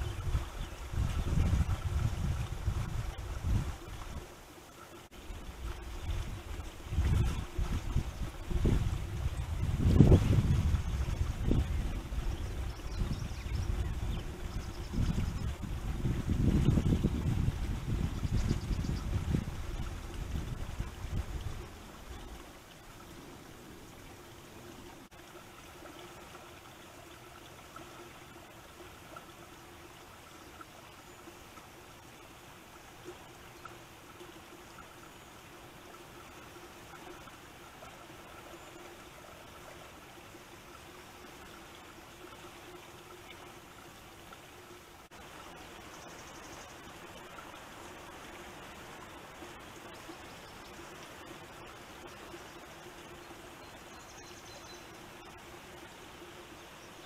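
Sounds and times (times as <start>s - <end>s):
water trickling: 0.0s - 57.0s.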